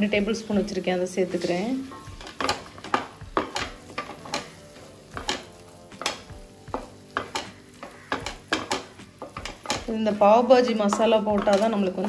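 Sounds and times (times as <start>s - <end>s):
light sizzle: 0.0s - 12.0s
spatula scraping a metal pan: 1.4s - 12.0s.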